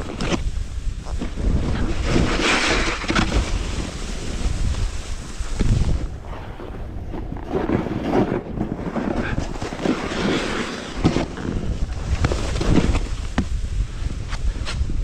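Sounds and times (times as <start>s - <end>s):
snowboard scraping over snow: 0.0s - 15.0s
wind buffeting microphone: 0.0s - 15.0s.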